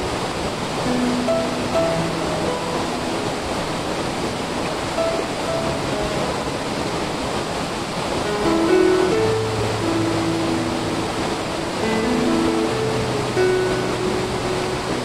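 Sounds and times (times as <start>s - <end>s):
slow music with held notes: 0.0s - 7.5s, 8.2s - 15.0s
waterfall rushing into pool: 0.0s - 15.0s.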